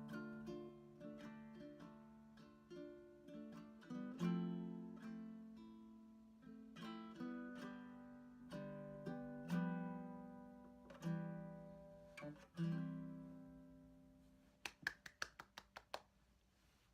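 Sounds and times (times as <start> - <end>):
ukulele strumming chords: 0.0 - 14.5.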